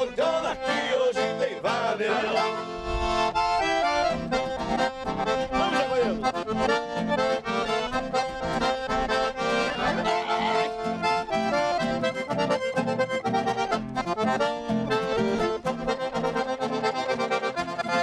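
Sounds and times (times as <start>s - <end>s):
accordion playing: 0.0s - 18.0s.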